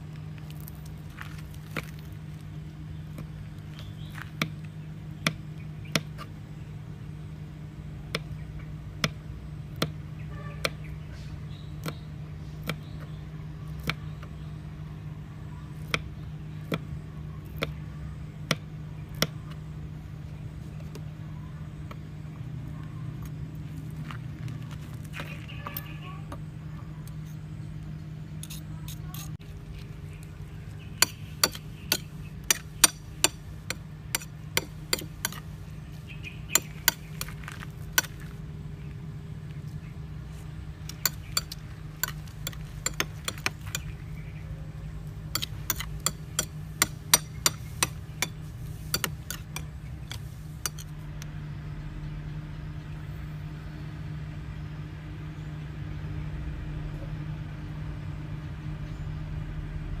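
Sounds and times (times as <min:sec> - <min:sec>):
steady low hum: 0:00.0 - 1:00.0.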